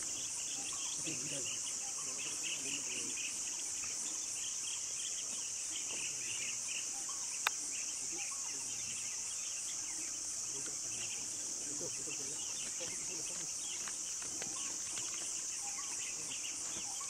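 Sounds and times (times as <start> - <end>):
high-pitched insect chorus: 0.0 - 17.0
insect chirps: 0.0 - 17.0.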